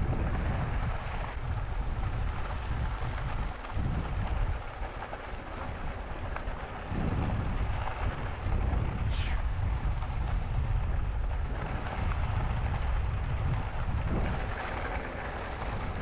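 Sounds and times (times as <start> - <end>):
bike tyre rumble: 0.0 - 16.0
wind buffeting microphone: 0.0 - 16.0.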